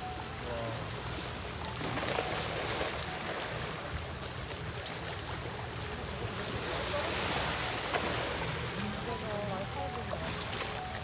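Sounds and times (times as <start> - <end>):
small waves washing shoreline: 0.0 - 11.0.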